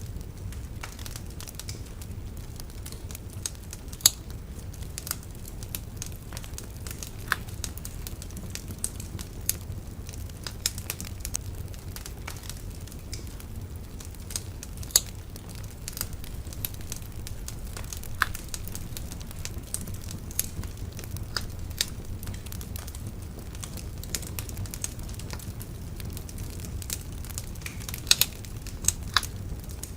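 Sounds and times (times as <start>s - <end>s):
fire crackling and popping: 0.0s - 29.9s
low rumble of flames: 0.0s - 29.9s.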